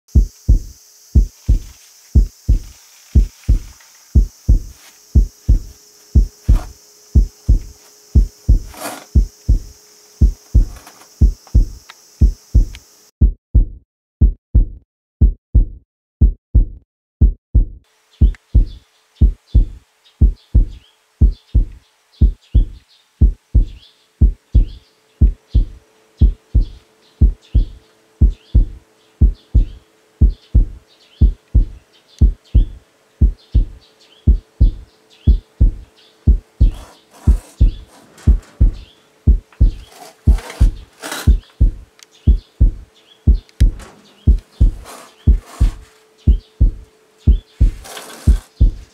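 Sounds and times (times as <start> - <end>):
high hiss: 0.1 - 13.1, 17.9 - 48.9
heartbeat thumps: 0.1 - 48.9.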